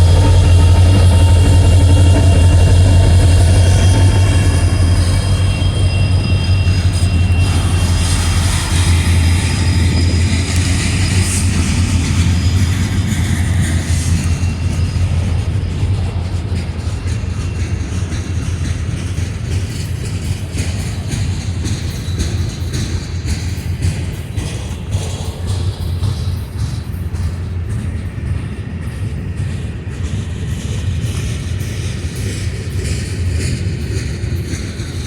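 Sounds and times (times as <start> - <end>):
diesel locomotive drone: 0.0 - 35.0
railcars rolling: 0.0 - 35.0.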